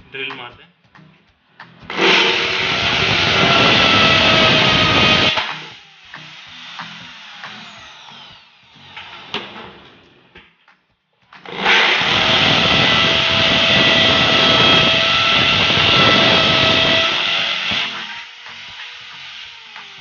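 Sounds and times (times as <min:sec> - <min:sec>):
electric drill whining: 0:01.8 - 0:10.2, 0:11.4 - 0:20.0.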